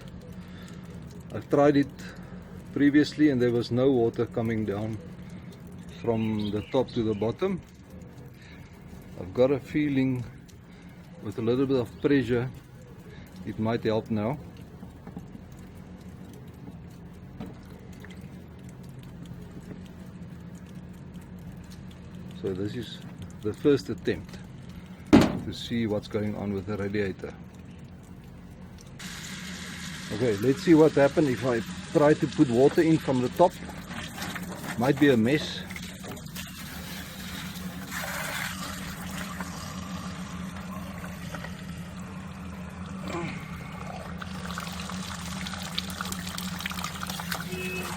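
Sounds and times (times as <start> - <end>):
water dripping: 0.0 - 29.1, 30.0 - 47.9
steady low hum: 0.0 - 47.9.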